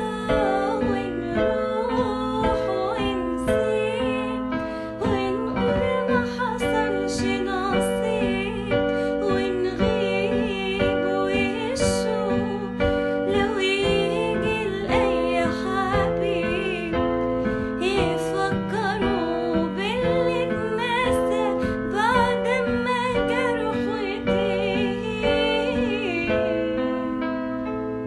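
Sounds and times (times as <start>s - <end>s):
piano accompaniment: 0.0s - 28.0s
woman singing: 0.0s - 28.0s.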